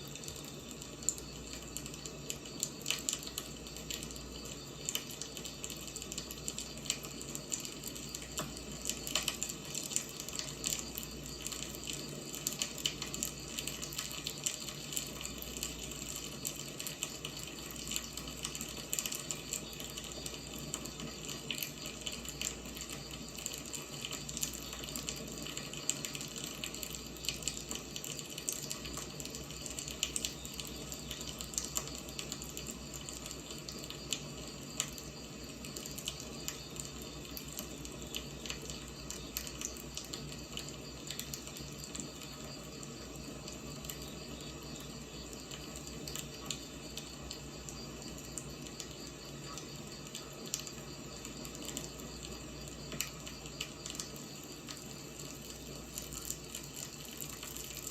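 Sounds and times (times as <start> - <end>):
wood fire crackling and hissing: 0.0 - 57.9.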